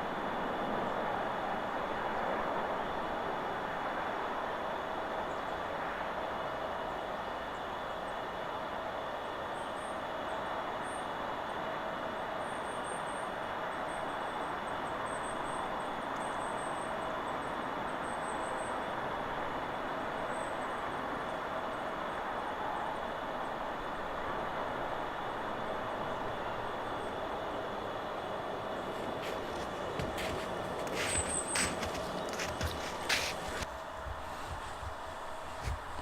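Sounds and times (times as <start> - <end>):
wind through forest trees: 0.0 - 36.0.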